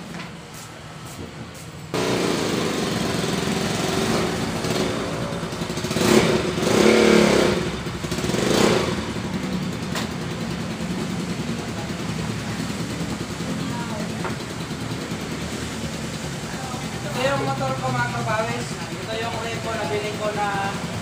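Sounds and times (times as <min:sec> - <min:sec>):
motorcycle engine revving and idling: 0:01.9 - 0:21.0.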